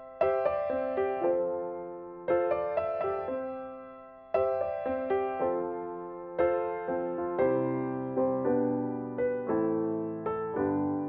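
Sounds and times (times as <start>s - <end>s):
soft piano notes: 0.0s - 11.0s.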